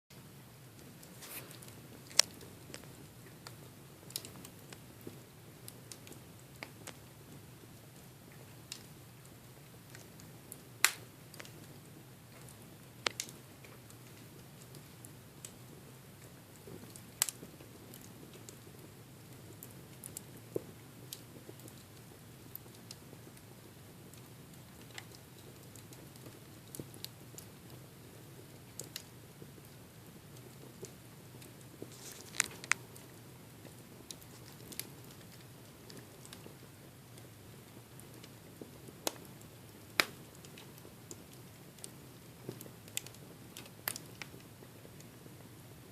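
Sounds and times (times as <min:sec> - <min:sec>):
rustle of flames: 0:00.2 - 0:45.9
wood fire pops and snaps: 0:00.2 - 0:45.9.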